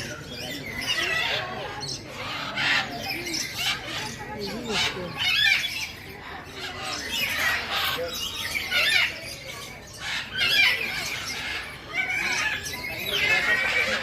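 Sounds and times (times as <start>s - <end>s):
parrots squawking: 0.0s - 14.0s.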